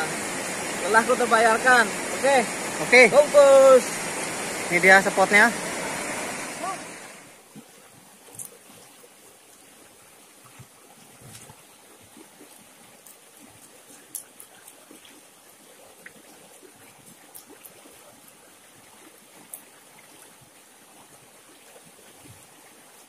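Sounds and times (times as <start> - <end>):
river running over stones: 0.0 - 23.0
small splashes: 3.8 - 23.0.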